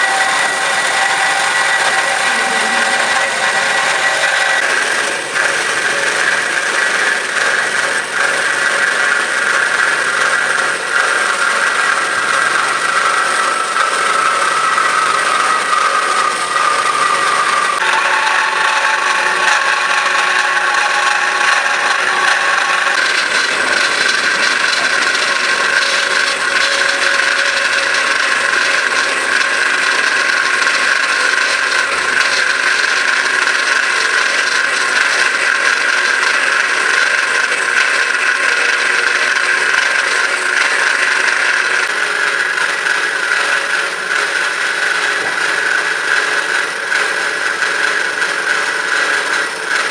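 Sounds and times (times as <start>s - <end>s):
band saw running: 0.0s - 49.9s.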